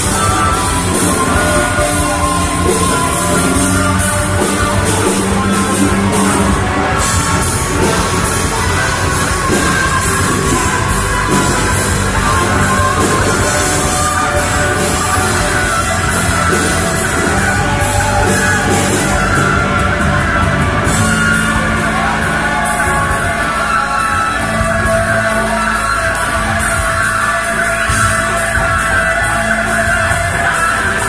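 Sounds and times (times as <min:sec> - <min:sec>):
rock band playing heavy music: 0:00.0 - 0:31.0.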